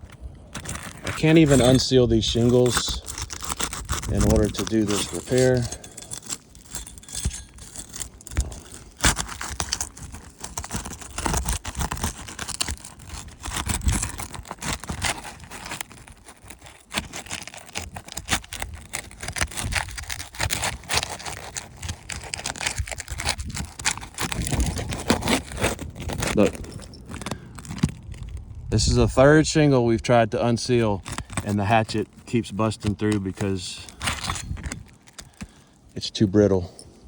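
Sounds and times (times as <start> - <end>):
shingle tearing: 0.0 - 36.7
hatchet scraping under shingles: 0.0 - 37.0.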